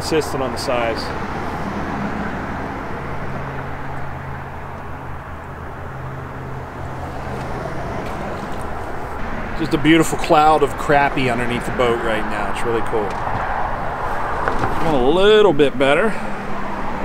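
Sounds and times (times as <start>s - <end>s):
constant rumble: 0.0s - 17.0s.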